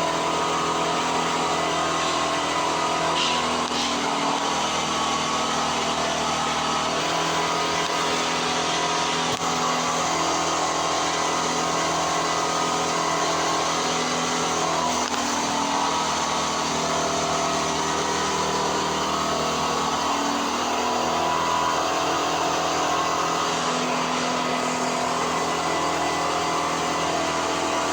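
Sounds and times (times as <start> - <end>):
printer steady hum: 0.0 - 27.9
stepper motors whining: 0.0 - 27.9.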